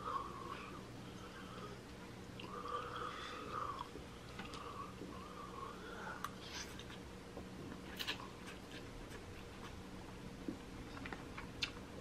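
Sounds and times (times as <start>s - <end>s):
steady low hum: 0.0s - 12.0s
man chewing noodles: 0.2s - 9.8s, 10.4s - 12.0s.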